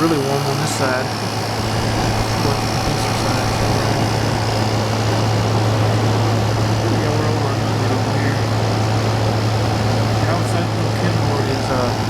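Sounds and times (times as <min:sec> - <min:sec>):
compressor hum: 0:00.0 - 0:12.0
fan-driven air rushing: 0:00.0 - 0:12.0.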